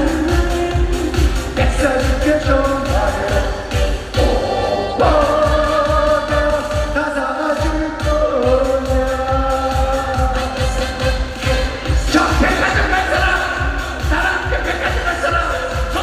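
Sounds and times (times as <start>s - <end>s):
backing track with kick-drum beat: 0.0s - 16.0s
person singing long notes: 0.0s - 16.0s.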